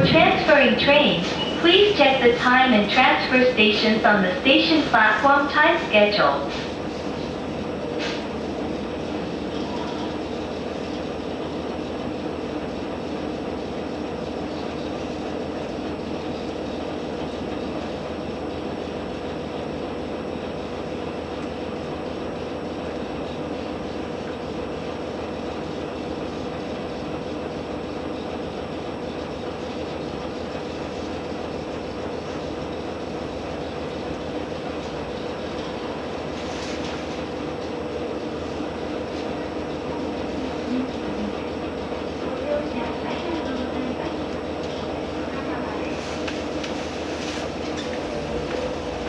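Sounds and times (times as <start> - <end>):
railcar diesel engine hum: 0.0 - 49.0.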